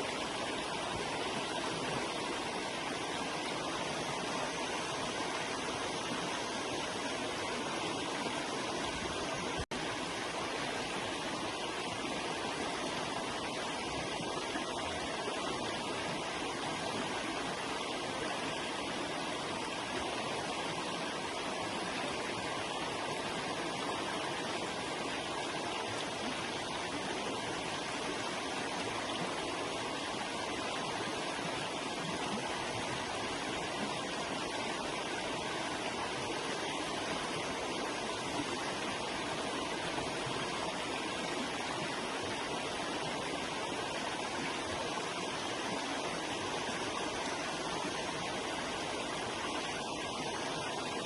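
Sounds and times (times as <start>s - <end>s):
river water flowing: 0.0s - 51.0s.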